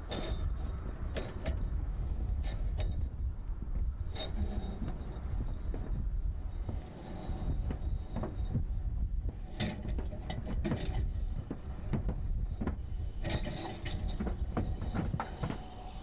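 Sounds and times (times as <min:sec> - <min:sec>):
boots on metal roof: 0:00.0 - 0:16.0
low rumble: 0:00.0 - 0:16.0.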